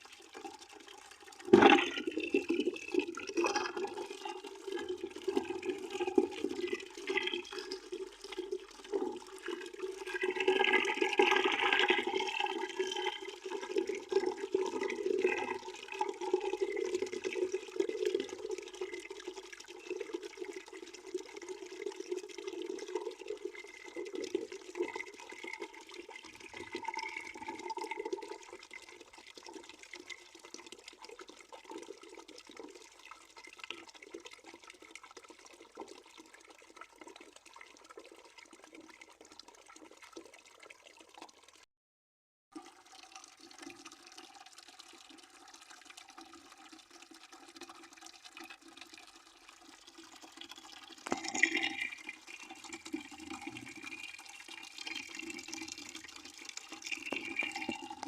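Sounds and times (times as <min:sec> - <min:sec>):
water pouring into a bucket: 0:00.0 - 0:41.7, 0:42.5 - 0:58.0.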